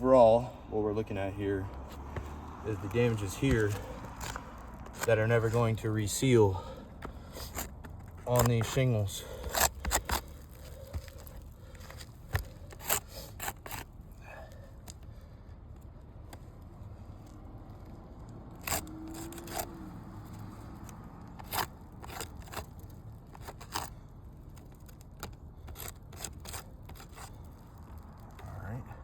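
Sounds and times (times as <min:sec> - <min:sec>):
roof shingles crackling and scraping: 0:00.0 - 0:29.0.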